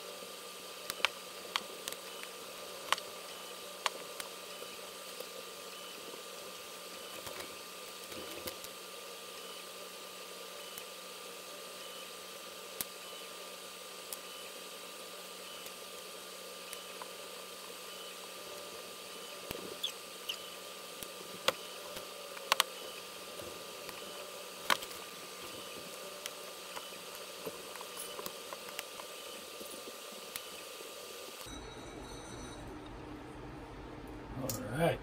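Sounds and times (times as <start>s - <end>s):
steady background hum: 0.0s - 35.0s.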